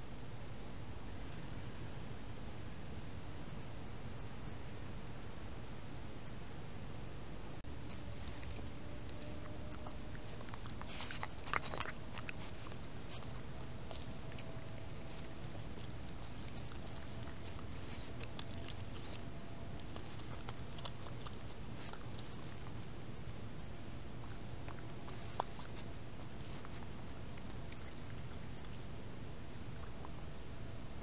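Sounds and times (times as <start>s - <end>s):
constant high whine: 0.0s - 31.0s.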